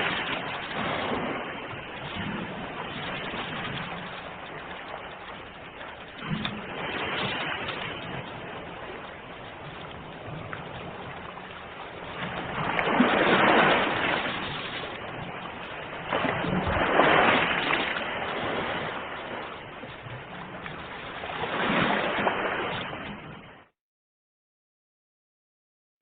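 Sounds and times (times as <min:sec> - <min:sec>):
waves breaking: 0:00.0 - 0:23.7.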